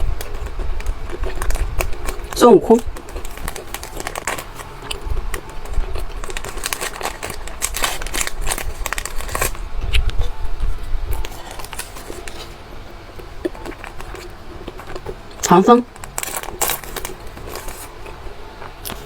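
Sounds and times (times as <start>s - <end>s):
plastic candy wrapper crinkling: 0.0s - 10.3s, 11.2s - 12.6s, 13.5s - 18.2s.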